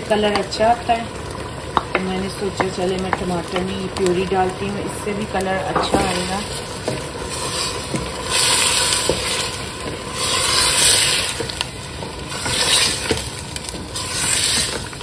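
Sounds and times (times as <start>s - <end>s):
meat sizzling in hot oil: 0.0s - 15.0s
wooden spoon stirring: 1.8s - 15.0s.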